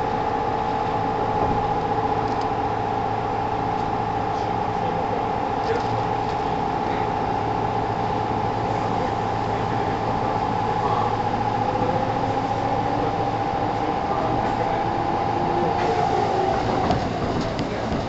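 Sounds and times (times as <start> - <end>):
running gear whine: 0.0 - 18.0
train wheels rumbling on track: 0.0 - 18.0.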